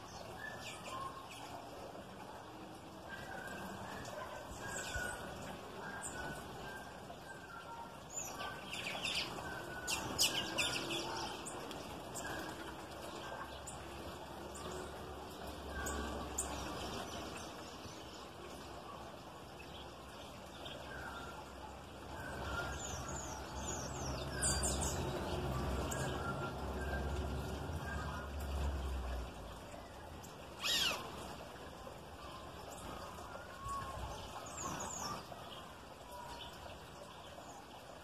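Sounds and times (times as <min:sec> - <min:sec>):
birds chirping: 0:03.0 - 0:37.9.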